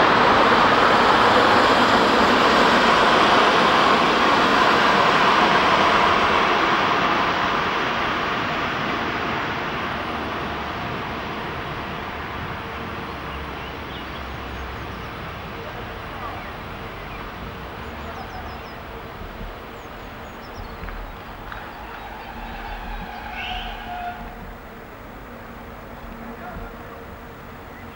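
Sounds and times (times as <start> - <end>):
train running along track: 0.0 - 27.9.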